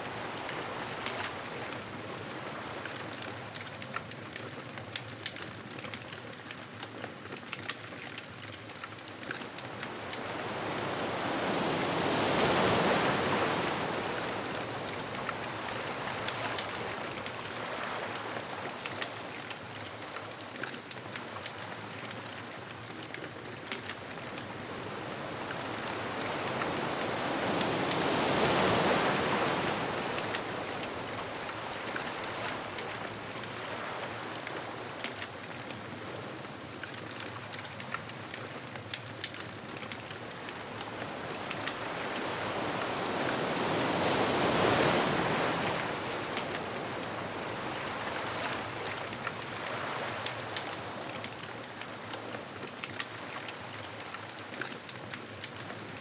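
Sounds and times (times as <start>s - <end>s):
ocean surf on beach: 0.0s - 6.2s, 8.0s - 56.0s.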